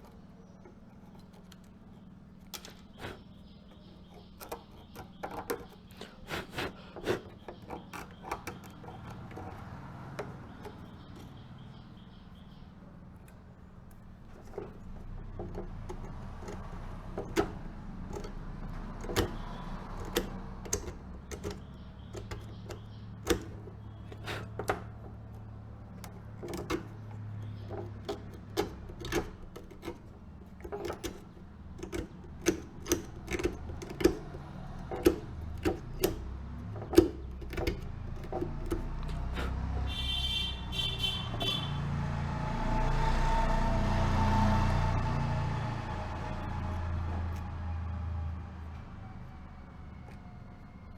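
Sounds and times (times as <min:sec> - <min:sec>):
sharp clicks and knocks: 0:00.0 - 0:41.8.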